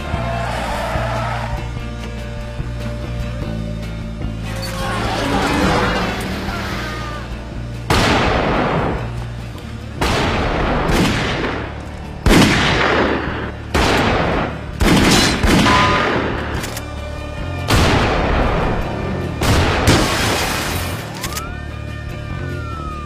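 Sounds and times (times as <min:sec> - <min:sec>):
low film-score drone: 0:00.0 - 0:19.8.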